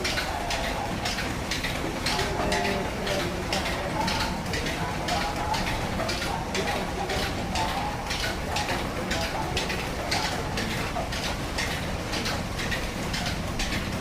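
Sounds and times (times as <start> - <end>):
oil mill machinery rumbling: 0.0 - 14.0.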